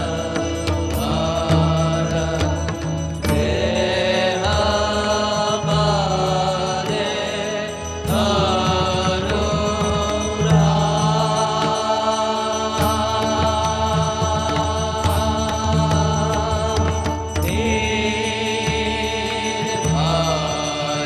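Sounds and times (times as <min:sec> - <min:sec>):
sharp percussion strokes: 0:00.0 - 0:21.0.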